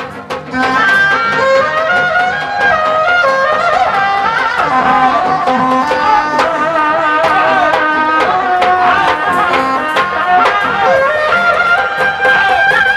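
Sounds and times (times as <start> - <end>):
hand drum strokes: 0.0 - 12.9
reedy wind instrument melody: 0.0 - 12.9.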